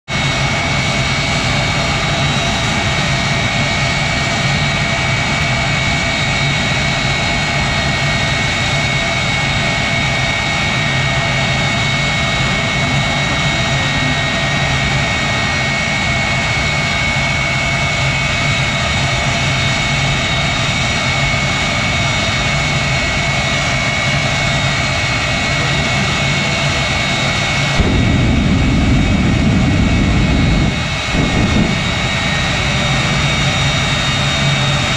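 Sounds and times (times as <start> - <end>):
loud low jet rumble: 0.0 - 34.9
jet engine turbine whine: 0.1 - 34.9.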